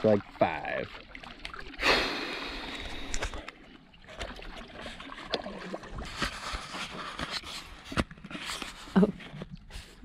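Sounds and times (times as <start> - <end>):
paddle swishing and dripping: 0.0 - 10.0.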